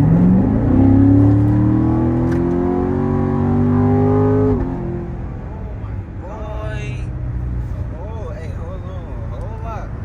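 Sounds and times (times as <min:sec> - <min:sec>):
car engine at full throttle: 0:00.0 - 0:10.0.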